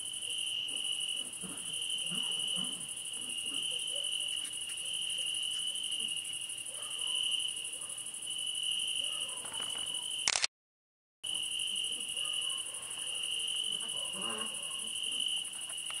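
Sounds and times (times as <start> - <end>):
crickets chirping: 0.0 - 10.3, 11.2 - 16.0
high-pitched insect trill: 0.0 - 10.3, 11.3 - 16.0.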